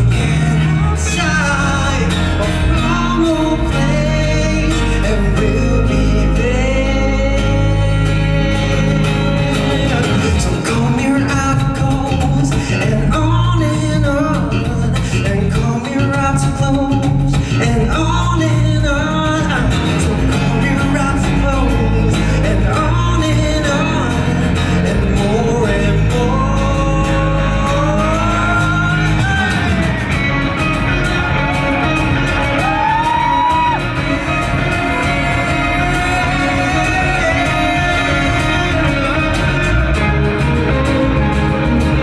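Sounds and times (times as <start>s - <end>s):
live rock band: 0.0s - 42.0s
person singing: 0.0s - 42.0s.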